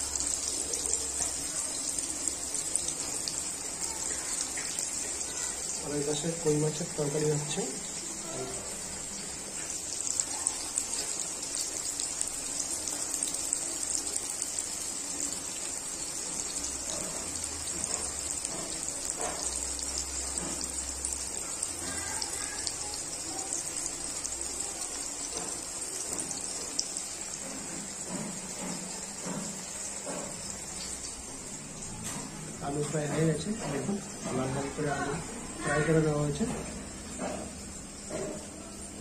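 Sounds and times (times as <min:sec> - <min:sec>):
hot oil sizzling and crackling: 0:00.0 - 0:39.0.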